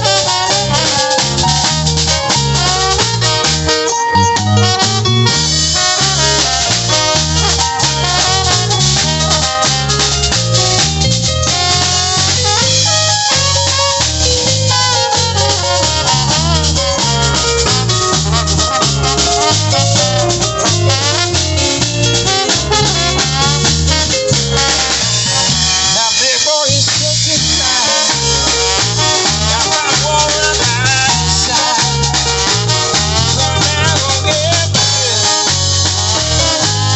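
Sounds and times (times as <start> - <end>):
bass line: 0.0 - 36.9
drum beat: 0.0 - 36.9
small jazz band playing: 0.0 - 36.9
trombone: 0.0 - 36.9.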